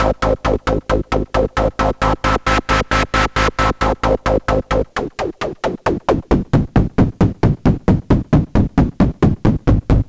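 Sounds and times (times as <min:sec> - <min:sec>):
rhythmic electronic hits: 0:00.0 - 0:10.0.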